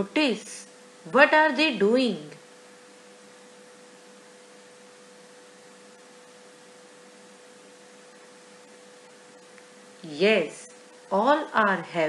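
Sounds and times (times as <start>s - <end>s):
faint constant hum: 0.0s - 12.0s.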